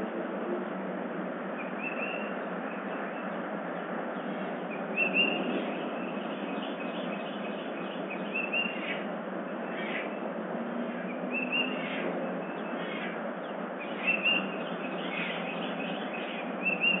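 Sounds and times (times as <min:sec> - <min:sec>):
steady microphone hiss: 0:00.0 - 0:17.0
small birds chirping: 0:01.4 - 0:17.0.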